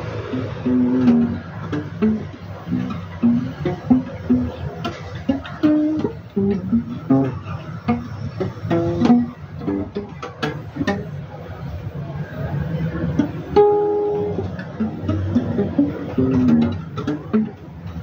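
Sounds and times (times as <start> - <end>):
plucked guitar melody: 0.0 - 18.0.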